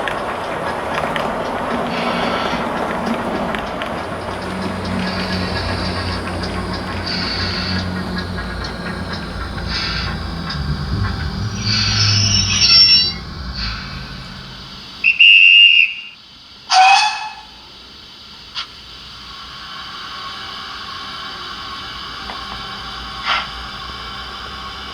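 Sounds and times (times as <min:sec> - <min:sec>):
model steam locomotive running sounds: 0:00.0 - 0:24.9
steam whistle blasts: 0:01.8 - 0:18.0, 0:18.6 - 0:24.9.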